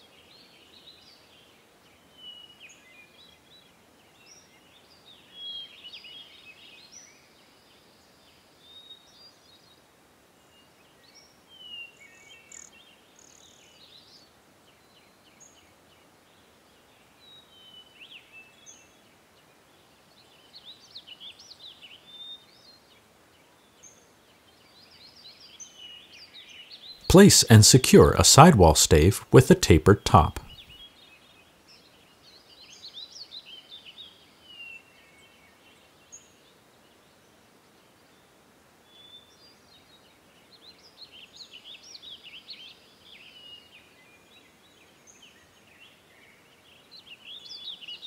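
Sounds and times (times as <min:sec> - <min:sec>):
faint background hiss: 0:00.0 - 0:48.0.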